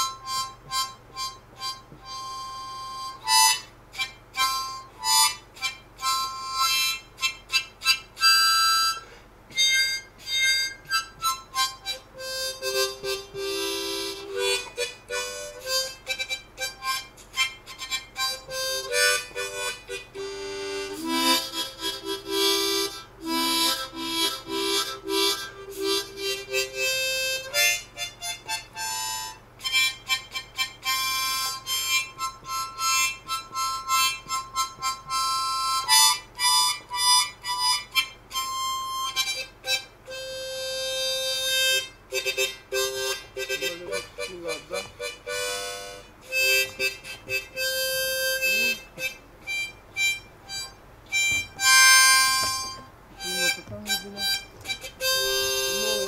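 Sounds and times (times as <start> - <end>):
harmonica instrumental music: 0.0 - 56.0.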